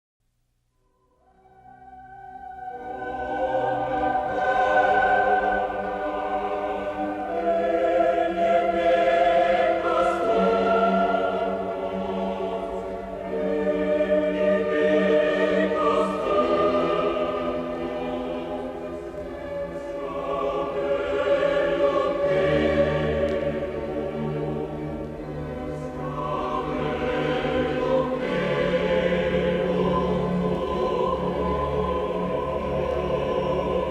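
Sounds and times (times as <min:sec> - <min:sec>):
choir singing held chords: 0:01.1 - 0:33.9.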